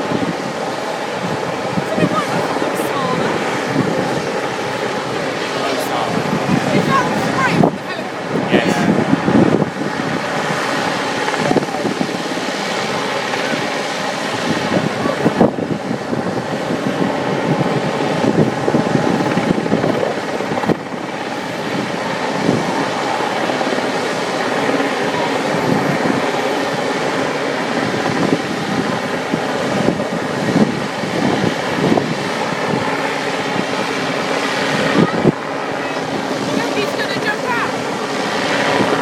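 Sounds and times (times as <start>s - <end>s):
helicopter hovering: 0.0s - 39.0s.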